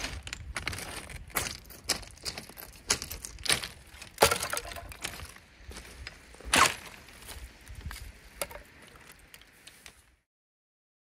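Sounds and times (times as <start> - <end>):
footsteps on pebbles: 0.0 - 10.2.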